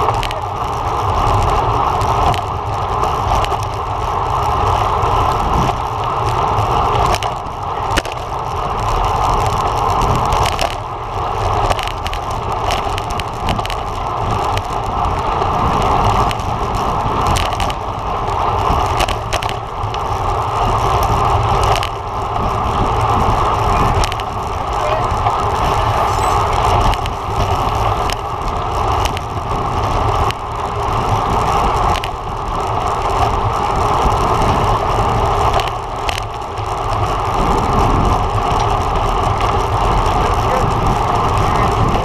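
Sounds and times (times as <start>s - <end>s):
road bike rolling and rushing: 0.0s - 42.0s.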